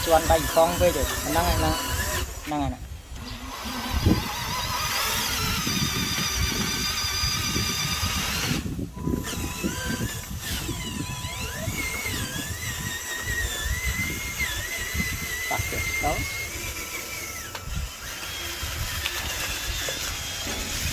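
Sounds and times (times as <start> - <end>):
toy truck electric motor whining: 0.0 - 20.9.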